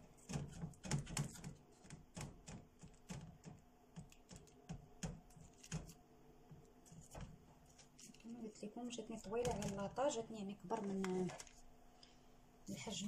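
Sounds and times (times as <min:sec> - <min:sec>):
fingertips tapping pastry on metal tray: 0:00.0 - 0:11.4.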